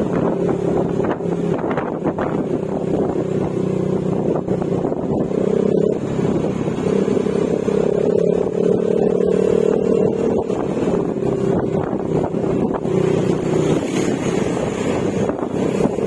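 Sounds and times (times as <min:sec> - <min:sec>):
scooter engine cruising: 0:00.0 - 0:16.0
wind on microphone: 0:00.0 - 0:16.0.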